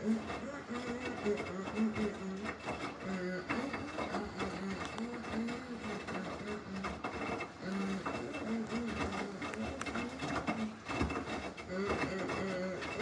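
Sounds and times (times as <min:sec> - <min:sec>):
washing machine motor whirring: 0:00.0 - 0:13.0.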